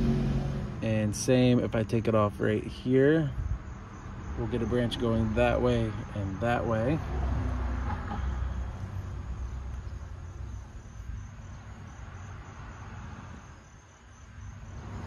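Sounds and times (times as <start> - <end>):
passing car rumble: 0.0 - 2.1, 3.2 - 15.0
crickets chirping: 0.0 - 15.0.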